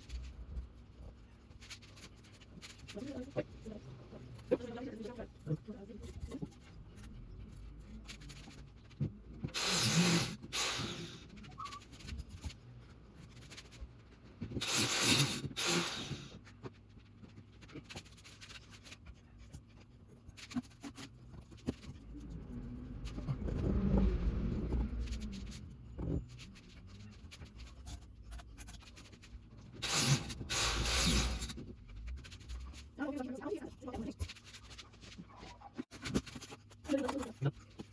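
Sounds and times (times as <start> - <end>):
scraping on stone and mortar: 0.0 - 37.9.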